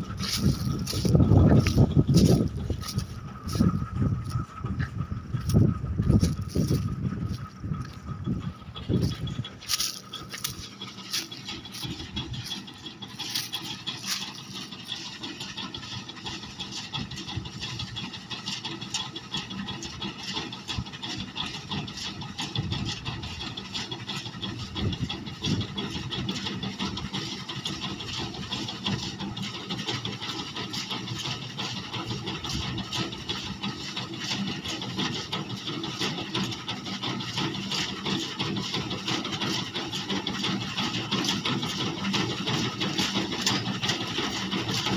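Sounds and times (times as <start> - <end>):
reaper rattling clatter: 0.0 - 44.9
tractor diesel engine running: 0.0 - 44.9.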